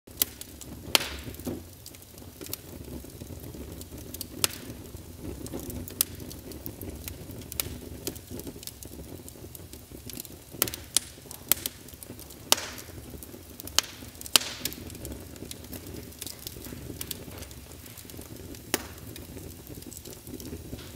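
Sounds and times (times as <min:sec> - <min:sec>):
wood fire crackling: 0:00.1 - 0:20.9.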